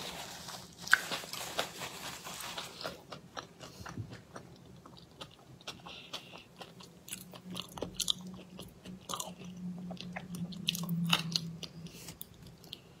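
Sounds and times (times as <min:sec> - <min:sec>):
low steady hum: 0:00.0 - 0:13.0
person chewing and biting food: 0:02.4 - 0:13.0.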